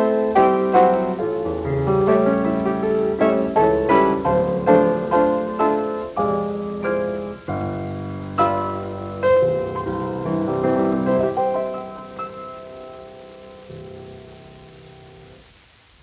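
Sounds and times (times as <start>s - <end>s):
piano melody over chords: 0.0s - 15.6s.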